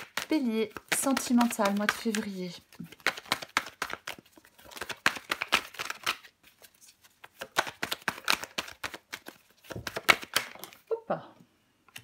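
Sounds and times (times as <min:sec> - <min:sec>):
cards shuffling: 0:00.0 - 0:10.9.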